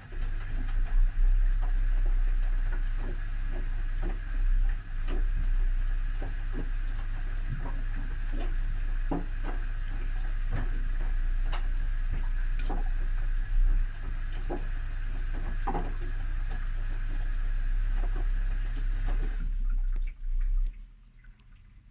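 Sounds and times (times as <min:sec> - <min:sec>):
laundry sloshing in drum: 0:00.0 - 0:21.9
washing machine motor hum: 0:00.0 - 0:21.9.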